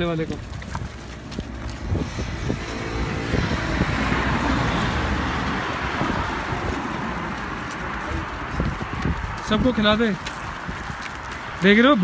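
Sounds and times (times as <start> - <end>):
vehicle passing on highway: 0.0 - 12.0.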